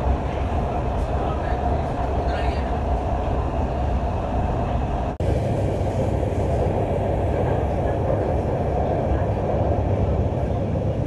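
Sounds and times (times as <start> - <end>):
metro train rumble inside carriage: 0.0 - 11.0.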